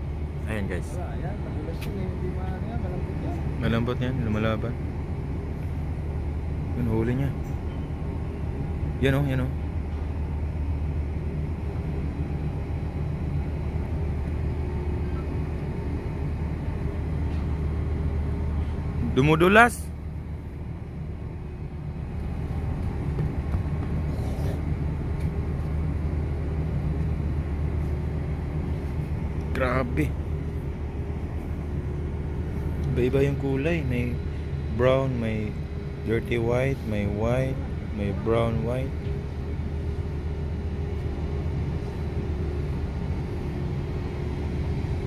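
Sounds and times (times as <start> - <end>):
ship machinery rumbling: 0.0 - 45.0.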